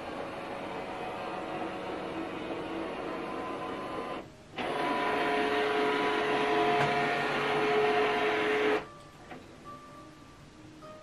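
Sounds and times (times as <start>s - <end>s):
scanner motor whine: 0.0s - 8.8s.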